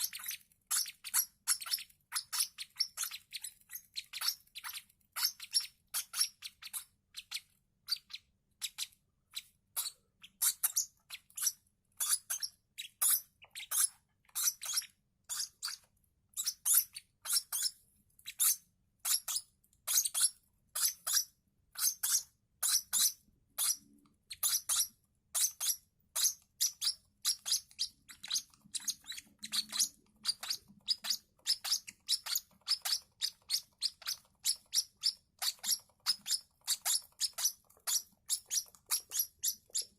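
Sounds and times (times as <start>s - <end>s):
chicks cheeping: 0.0s - 39.9s.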